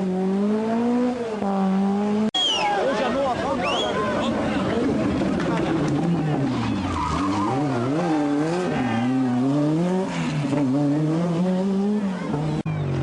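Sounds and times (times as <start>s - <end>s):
rally car engine revving: 0.0s - 2.4s, 4.2s - 13.0s.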